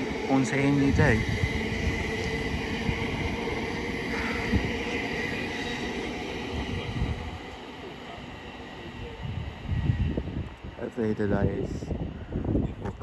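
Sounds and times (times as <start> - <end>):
electric train running on rails: 0.0 - 13.0.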